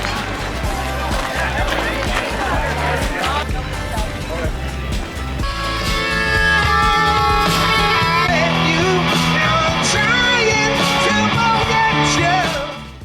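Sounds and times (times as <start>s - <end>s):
guitar background music: 0.0s - 13.0s.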